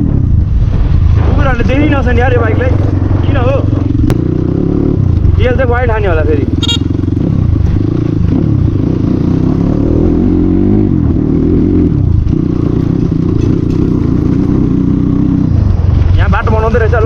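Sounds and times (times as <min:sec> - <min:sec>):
loud dirt bike engine revving: 0:02.2 - 0:15.8.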